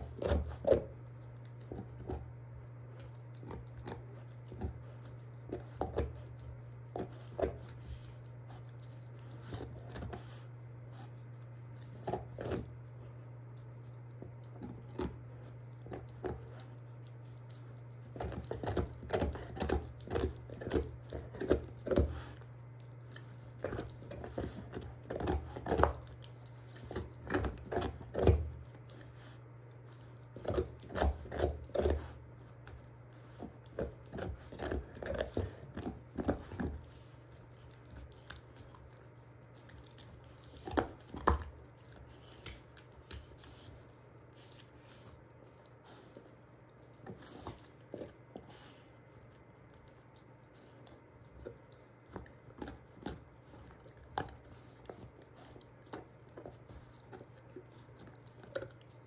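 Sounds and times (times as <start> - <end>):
dog gnawing and crunching bone: 0.0 - 59.0.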